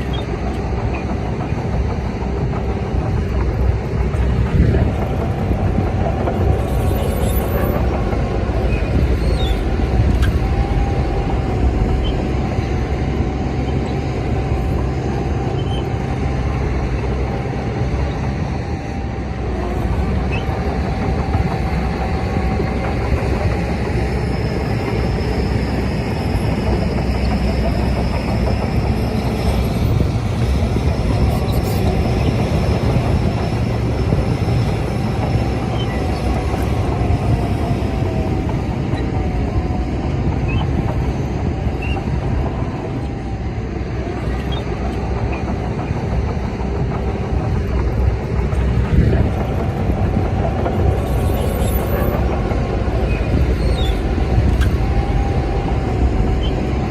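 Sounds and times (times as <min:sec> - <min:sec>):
bulldozer diesel engine: 0:00.0 - 0:56.9.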